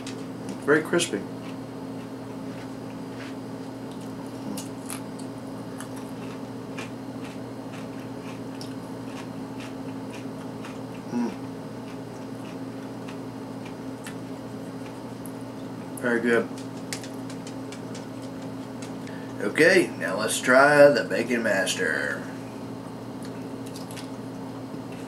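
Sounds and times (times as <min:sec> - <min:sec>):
crunchy bacon being chewed: 0:00.0 - 0:19.4, 0:22.8 - 0:25.0
steady low hum: 0:00.0 - 0:25.0.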